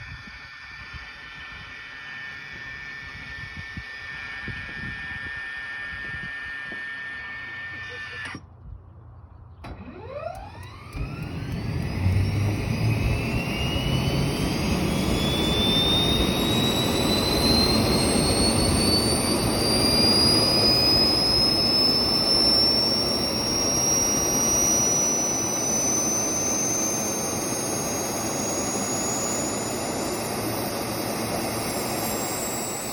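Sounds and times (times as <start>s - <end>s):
turbine rushing noise: 0.0s - 8.4s, 9.7s - 32.9s
rising turbine whine: 0.0s - 32.9s.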